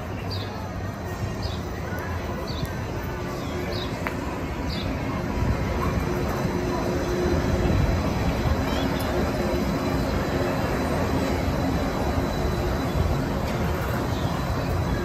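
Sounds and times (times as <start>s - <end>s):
monorail train rumbling: 0.0s - 15.0s.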